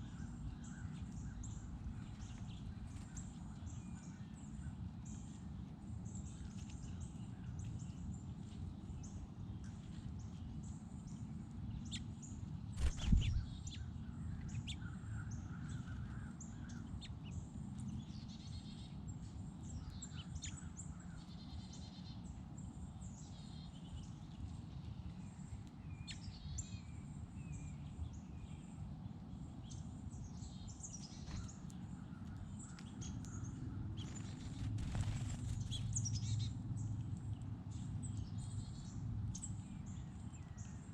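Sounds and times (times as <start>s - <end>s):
low background rumble: 0.0s - 22.4s, 23.0s - 40.9s
songbirds chirping: 0.0s - 40.9s.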